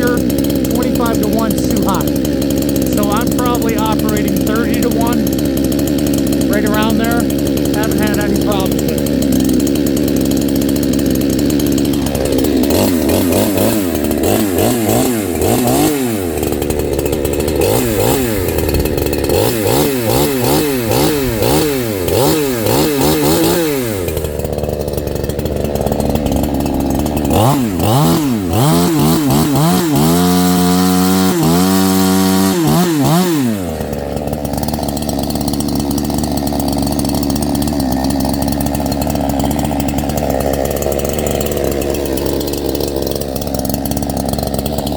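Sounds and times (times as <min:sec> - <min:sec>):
chainsaw revving and idling: 0:00.0 - 0:44.9.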